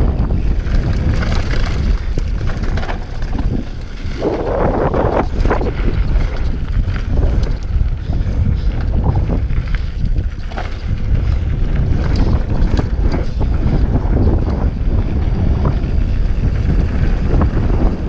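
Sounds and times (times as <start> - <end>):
bike clicks and rattles: 0.0 - 18.0
bike tyres rolling over dirt: 0.0 - 18.0
wind buffeting the microphone: 0.0 - 18.0.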